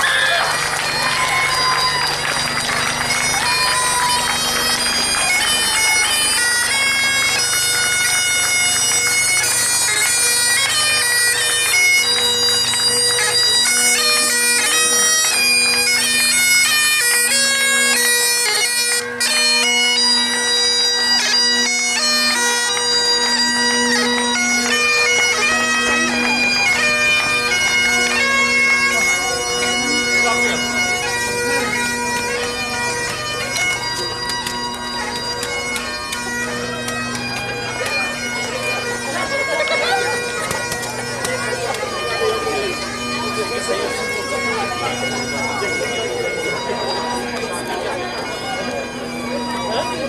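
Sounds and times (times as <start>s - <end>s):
bagpipes playing a tune: 0.0s - 50.0s.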